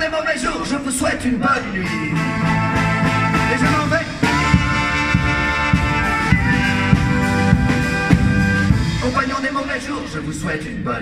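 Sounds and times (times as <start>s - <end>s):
street band playing: 0.0s - 10.8s.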